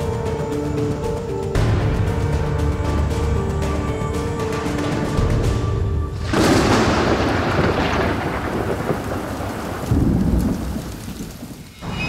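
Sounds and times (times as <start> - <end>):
heavy rain: 0.0 - 12.0
thunder rumbling: 1.6 - 12.0.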